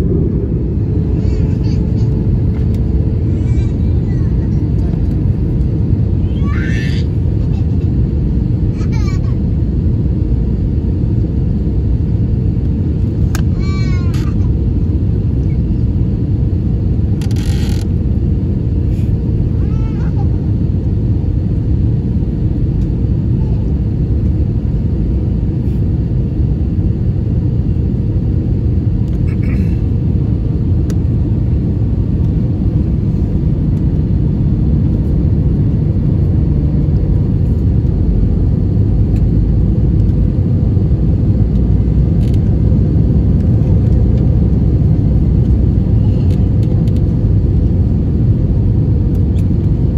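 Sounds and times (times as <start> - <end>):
aircraft engine and airflow rumble: 0.0 - 49.9.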